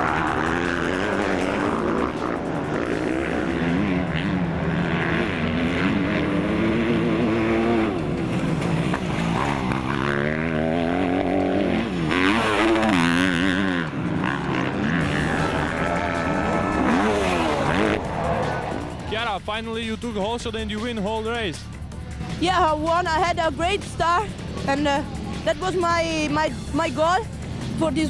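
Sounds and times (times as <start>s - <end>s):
motorbike engines revving: 0.0s - 28.0s.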